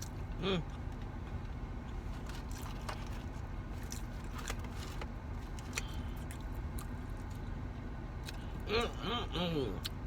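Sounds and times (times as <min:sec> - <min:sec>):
person chewing crunchy food: 0:00.0 - 0:09.0
steady low rumble: 0:00.0 - 0:10.0.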